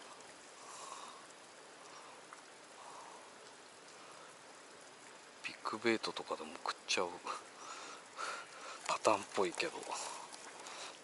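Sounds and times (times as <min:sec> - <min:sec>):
soft outdoor hiss: 0:00.0 - 0:11.0.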